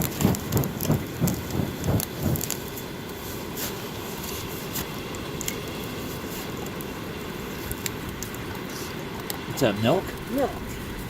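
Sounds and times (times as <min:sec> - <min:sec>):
campfire crackling and popping: 0:00.0 - 0:11.0
steady low rush: 0:00.0 - 0:11.0.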